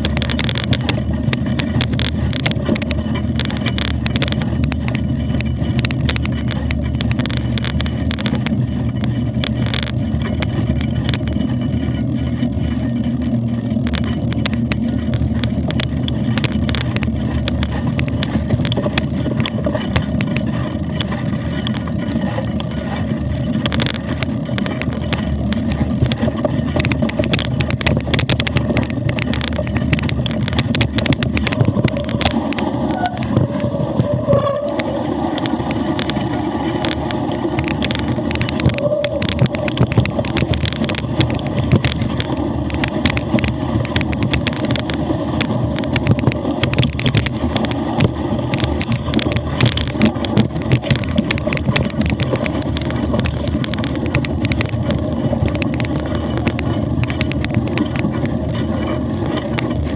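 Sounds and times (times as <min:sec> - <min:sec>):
bike rattling clicks and knocks: 0:00.0 - 0:59.9
tyres rumbling on track: 0:00.0 - 0:59.9
wind on microphone: 0:00.0 - 0:59.9.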